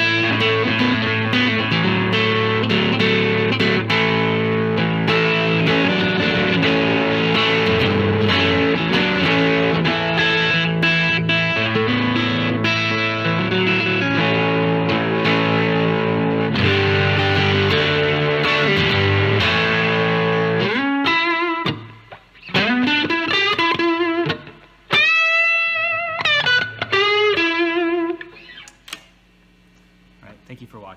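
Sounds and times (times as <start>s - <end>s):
distorted electric guitar: 0.0s - 28.8s.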